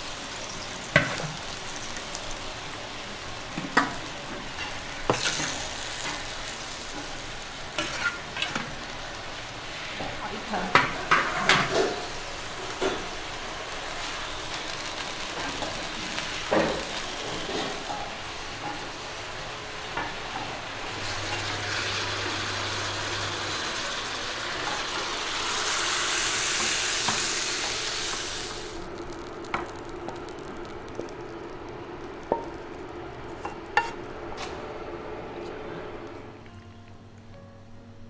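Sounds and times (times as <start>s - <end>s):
radish sizzling in a wok: 0.0s - 36.4s.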